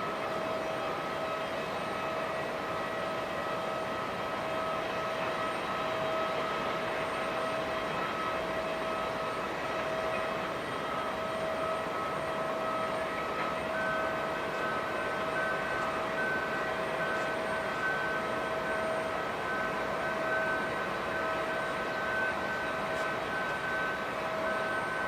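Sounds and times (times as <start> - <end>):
higher whine tone: 0.0 - 25.0
jet engines whining: 0.0 - 25.0.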